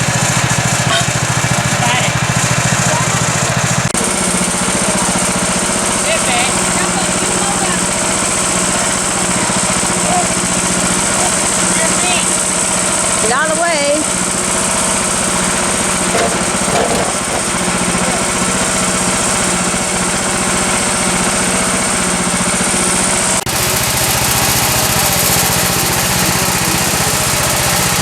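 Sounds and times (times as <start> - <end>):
small gasoline engine running: 0.0 - 28.0.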